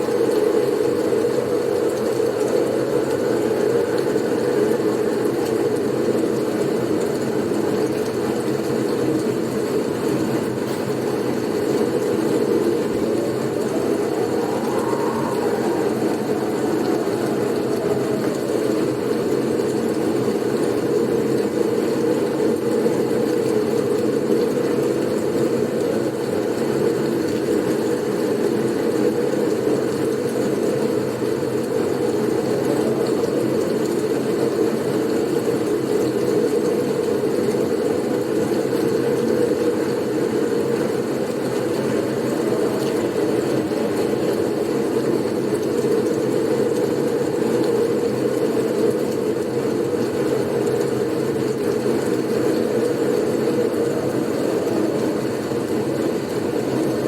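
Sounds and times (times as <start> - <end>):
whistling wind gust: 0.0 - 37.0, 37.8 - 57.0
low blizzard wind: 0.0 - 57.0.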